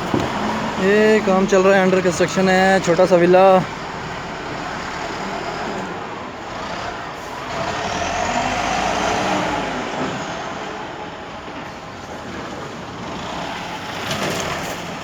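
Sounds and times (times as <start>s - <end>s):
heavy vehicle engine passing: 0.0s - 15.0s.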